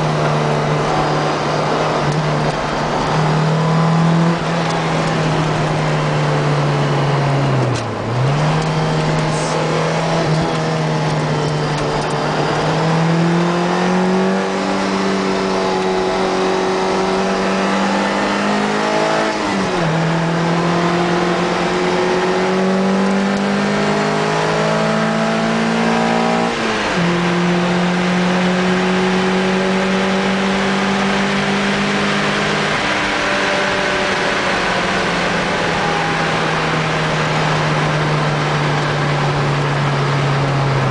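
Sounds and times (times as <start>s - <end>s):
car engine at high revs: 0.0s - 40.9s.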